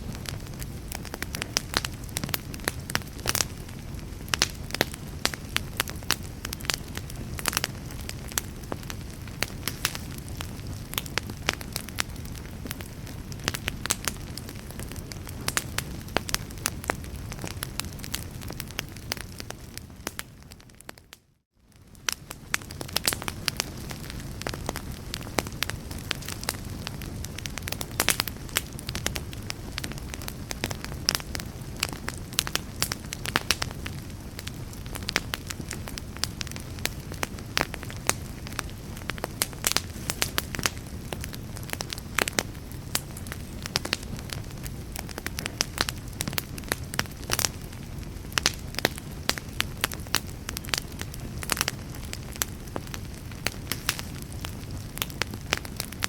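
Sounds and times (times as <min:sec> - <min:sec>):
fire crackling: 0:00.0 - 0:56.0
pops and snaps of fire: 0:04.3 - 0:56.0.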